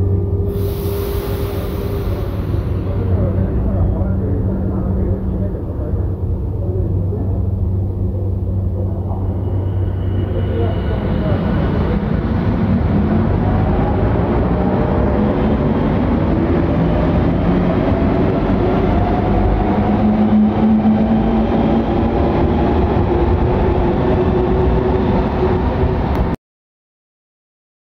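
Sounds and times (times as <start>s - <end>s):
metro train rumble and whine: 0.0s - 26.4s.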